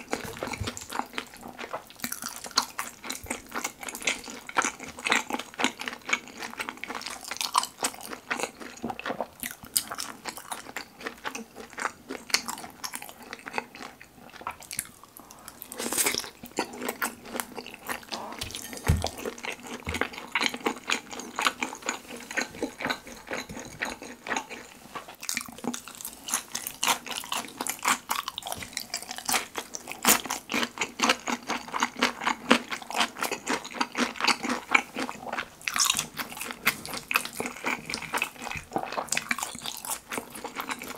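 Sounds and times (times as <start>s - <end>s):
close-miked chewing and biting: 0.0s - 40.9s.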